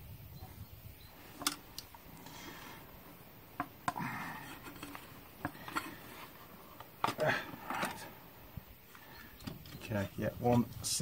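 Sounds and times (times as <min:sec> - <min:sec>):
rustling and scraping: 0:01.2 - 0:11.0.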